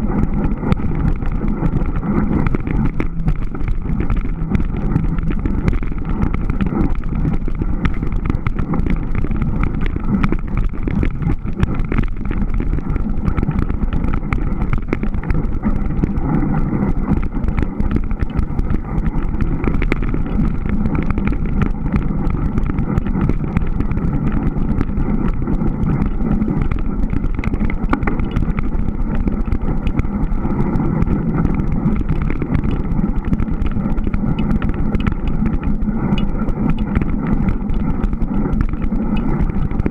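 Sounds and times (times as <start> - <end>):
bike tyres crackling on snow: 0.0 - 39.9.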